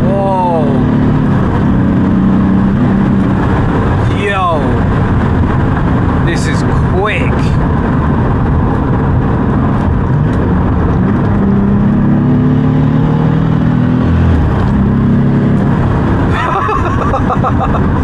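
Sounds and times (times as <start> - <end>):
diesel engine accelerating hard: 0.0 - 18.0.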